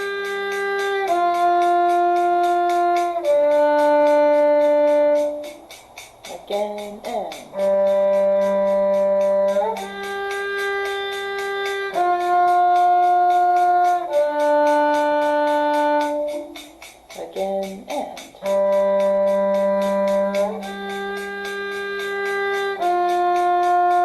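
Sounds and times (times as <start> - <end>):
bowed string instrument notes: 0.0 - 24.0.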